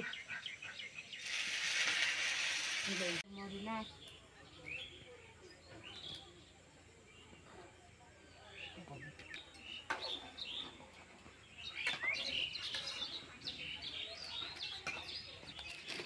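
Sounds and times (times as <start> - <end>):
small birds chirping: 0.0 - 2.0, 2.6 - 16.0.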